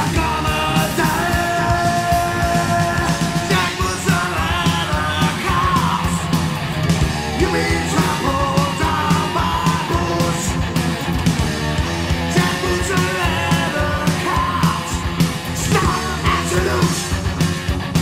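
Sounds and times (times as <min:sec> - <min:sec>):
bass guitar: 0:00.0 - 0:18.0
distorted electric guitars: 0:00.0 - 0:18.0
drums: 0:00.0 - 0:18.0.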